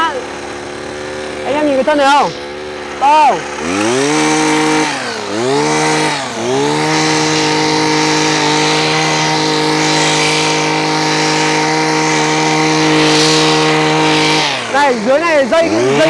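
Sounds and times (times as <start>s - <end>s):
blades cutting weeds: 0.0s - 16.0s
hedge trimmer engine revving: 0.0s - 16.0s.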